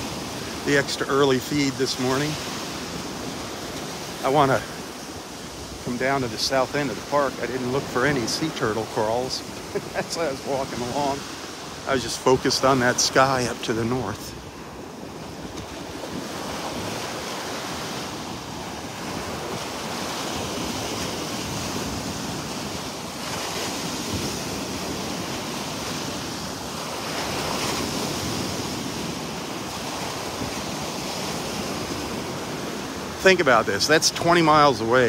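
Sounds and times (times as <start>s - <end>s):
surf washing up on beach: 0.0s - 35.0s.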